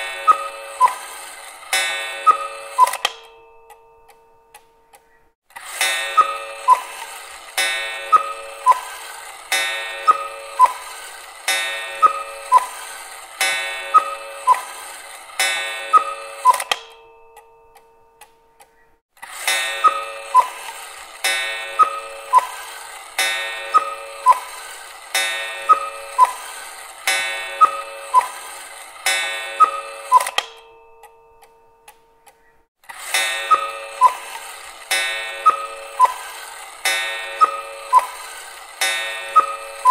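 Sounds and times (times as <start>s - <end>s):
cuckoo clock calling: 0.0s - 39.9s.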